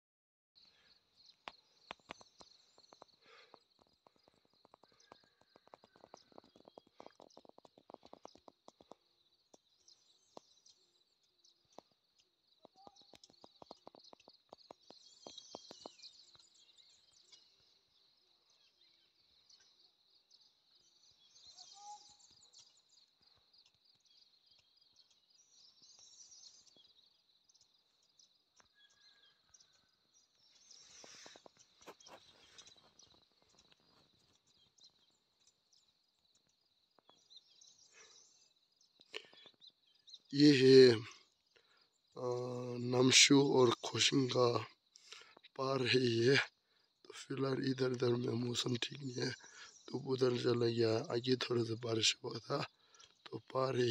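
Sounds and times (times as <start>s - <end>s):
faint bird chirps: 0.6s - 53.9s.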